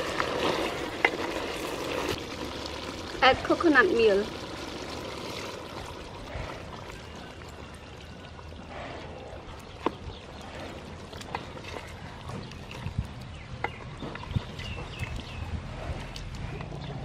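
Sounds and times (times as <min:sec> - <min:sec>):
coconut milk pouring: 0:00.0 - 0:16.3.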